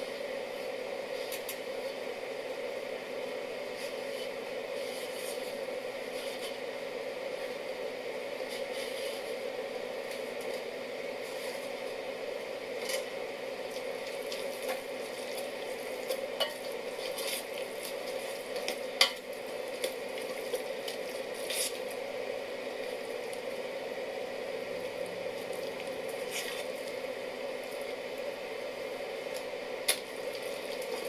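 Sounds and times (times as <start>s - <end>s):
pot simmering with sizzling hiss: 0.0s - 31.0s.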